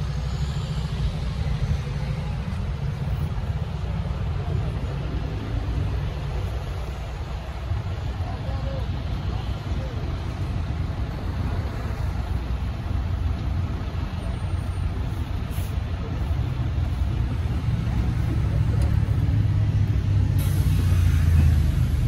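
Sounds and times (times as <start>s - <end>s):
faint voices: 0.9s - 20.7s.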